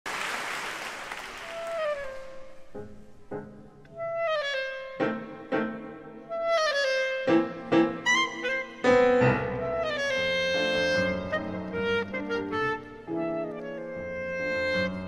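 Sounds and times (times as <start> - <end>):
clarinet melody: 1.4 - 15.0.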